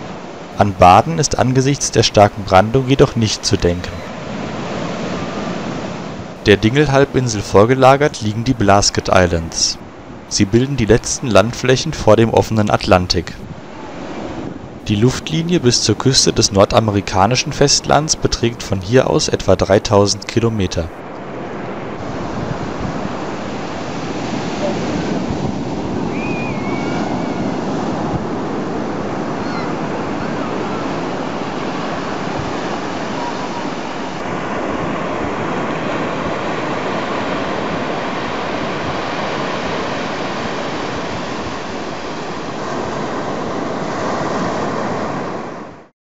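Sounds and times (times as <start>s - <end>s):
heavy surf breaking: 0.0s - 45.9s.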